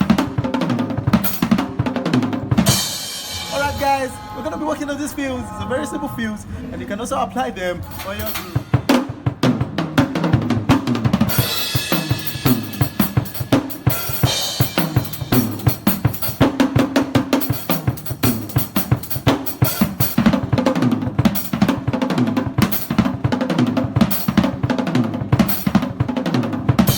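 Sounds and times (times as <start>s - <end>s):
drum kit fast fills: 0.0s - 5.0s, 7.8s - 26.9s.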